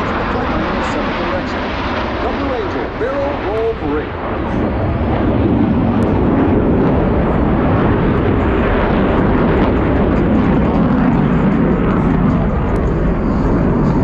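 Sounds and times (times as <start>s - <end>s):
loud jet engine noise: 0.0s - 14.0s.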